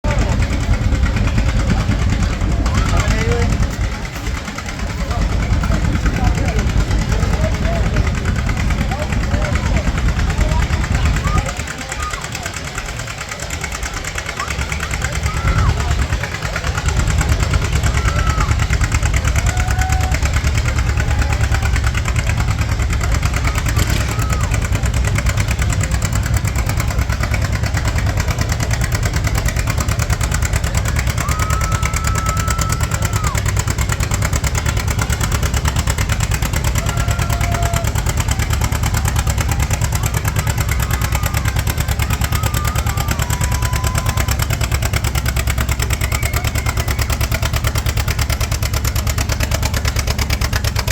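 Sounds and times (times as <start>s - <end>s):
tractor engine rumbling: 0.0s - 50.9s.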